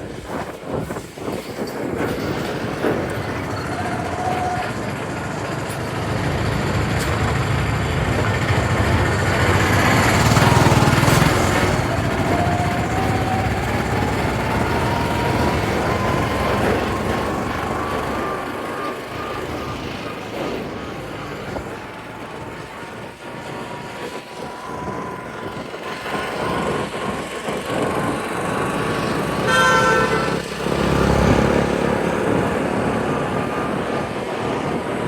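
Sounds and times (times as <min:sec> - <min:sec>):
road and traffic noise: 0:00.0 - 0:35.0
scooter engine running: 0:01.7 - 0:35.0
rising whine: 0:02.5 - 0:35.0.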